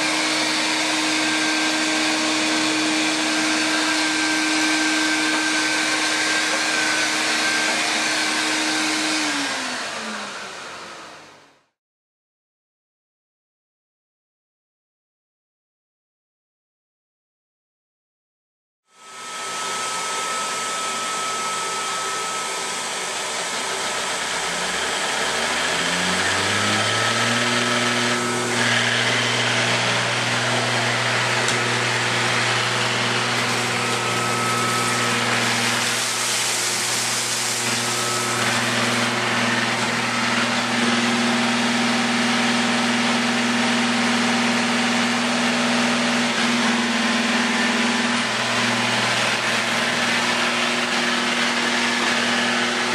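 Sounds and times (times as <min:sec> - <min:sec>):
robot vacuum whirring: 0:00.1 - 0:11.1, 0:19.1 - 0:52.9.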